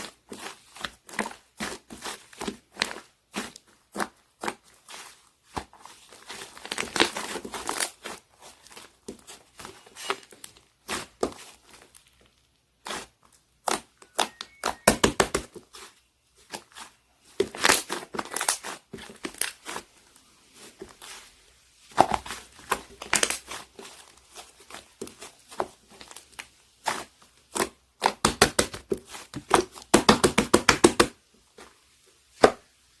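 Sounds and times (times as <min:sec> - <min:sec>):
slime squelching by hand: 0:00.0 - 0:30.0.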